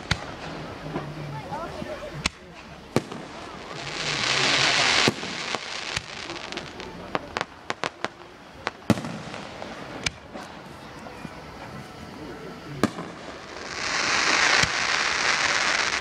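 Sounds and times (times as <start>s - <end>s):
firework bangs and pops: 0.0s - 10.9s, 12.8s - 16.0s
firework shell hissing: 0.0s - 16.0s.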